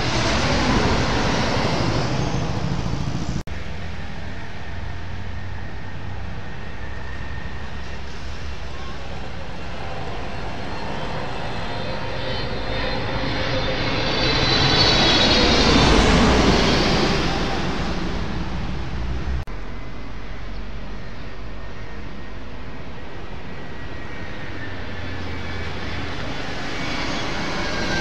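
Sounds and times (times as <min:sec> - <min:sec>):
jet engine passing overhead: 0:00.0 - 0:28.0.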